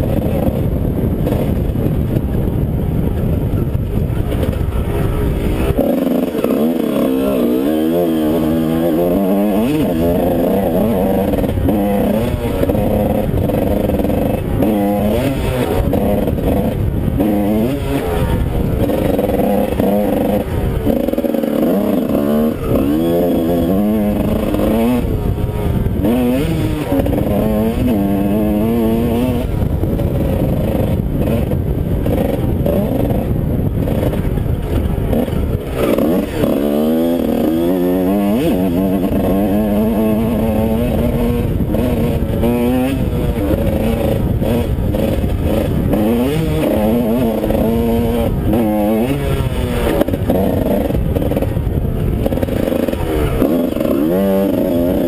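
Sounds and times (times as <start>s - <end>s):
two-stroke engine revving: 0.0s - 55.0s
wind rush: 0.0s - 55.0s.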